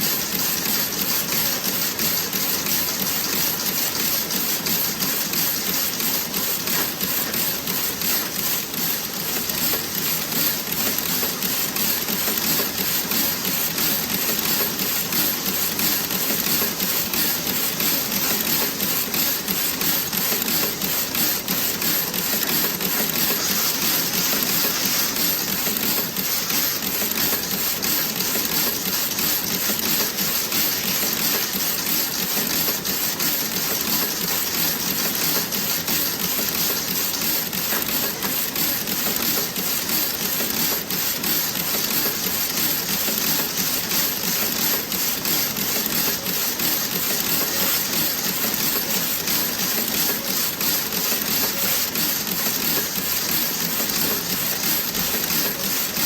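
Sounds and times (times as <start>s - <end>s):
knitting machine clattering: 0.1s - 56.0s.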